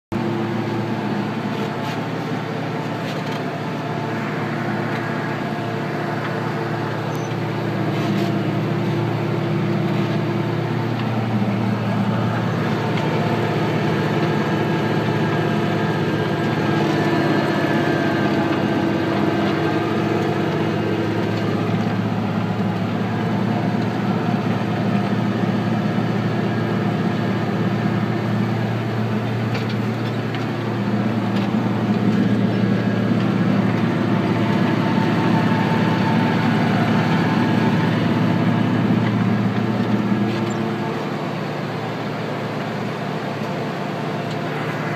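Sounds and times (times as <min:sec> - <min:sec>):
tractor diesel engine drone: 0:00.1 - 0:44.9.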